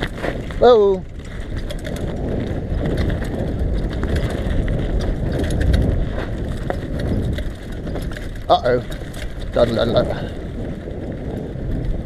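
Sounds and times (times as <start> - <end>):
bicycle tyres rumbling on dirt: 0.0 - 12.0
bike clicks and rattles: 0.0 - 12.0
wind on microphone: 0.0 - 12.0.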